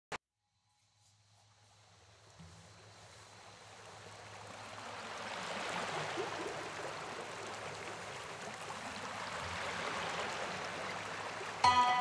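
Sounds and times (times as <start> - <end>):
waves breaking on a beach: 1.8 - 12.0.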